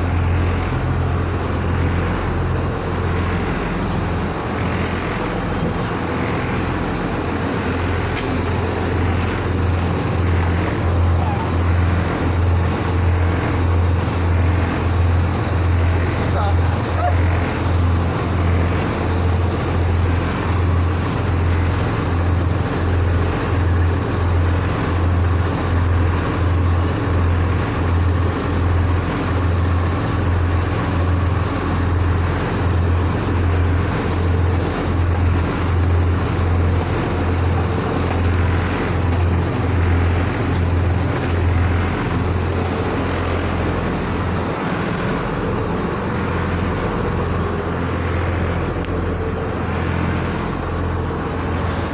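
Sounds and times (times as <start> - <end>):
diesel engine throbbing: 0.0 - 51.9.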